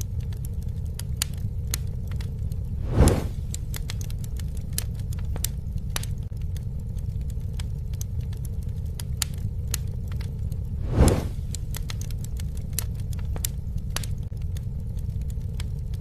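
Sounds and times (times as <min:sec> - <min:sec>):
fire crackles and pops: 0:00.0 - 0:16.0
fire flames rumbling: 0:00.0 - 0:16.0
fire whoosh: 0:00.2 - 0:15.7.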